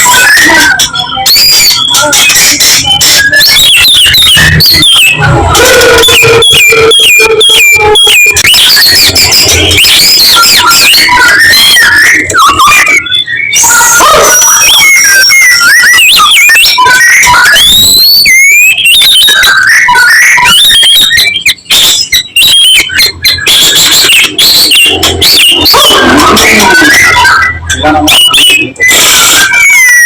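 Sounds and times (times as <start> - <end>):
sharp clicking chatter: 0.0 - 30.0.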